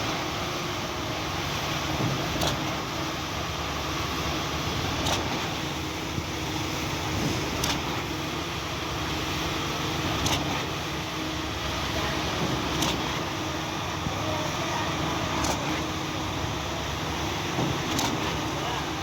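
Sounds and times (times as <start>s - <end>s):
concrete pump running: 0.0s - 19.0s.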